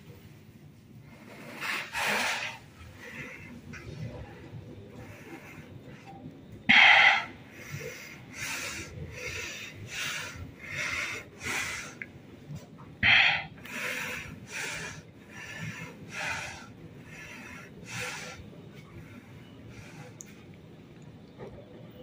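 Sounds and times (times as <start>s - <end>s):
person breathing heavily: 1.0s - 12.4s, 13.0s - 20.6s.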